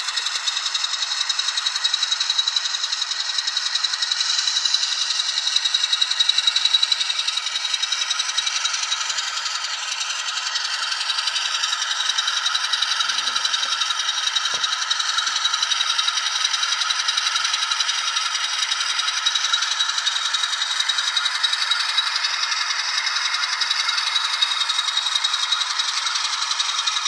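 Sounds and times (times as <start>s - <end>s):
tinny diesel engine chugging: 0.0s - 27.0s.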